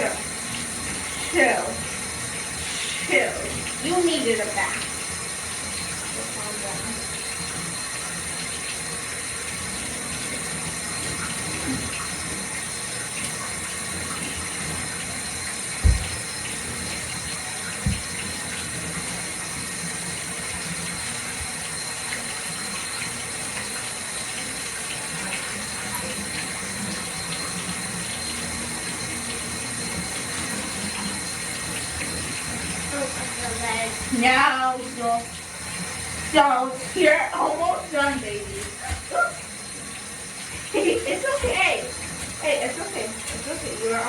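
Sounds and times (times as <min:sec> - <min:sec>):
water running from a tap: 0:00.0 - 0:44.0.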